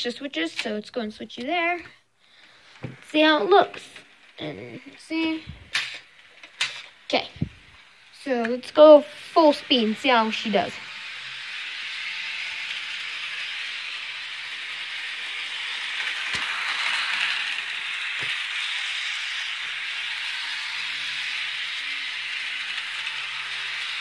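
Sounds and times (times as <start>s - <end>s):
model locomotive whirring rattle: 0.0s - 24.0s.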